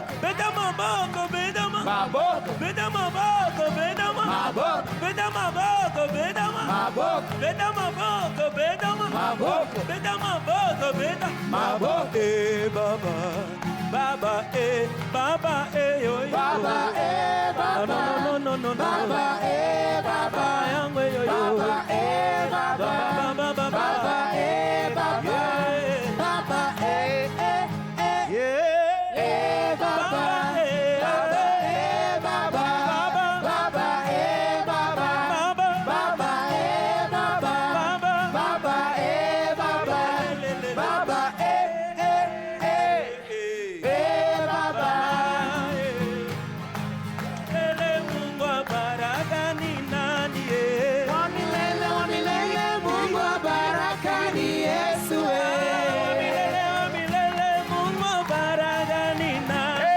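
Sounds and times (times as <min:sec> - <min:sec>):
group singing in harmony: 0:00.0 - 0:05.1, 0:06.2 - 0:48.2, 0:49.8 - 0:59.9.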